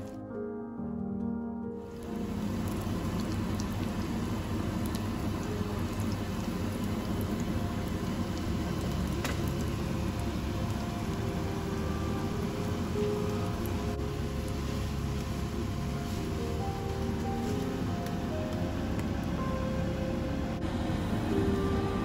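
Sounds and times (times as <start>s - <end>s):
patties sizzling in hot oil: 1.8s - 22.0s.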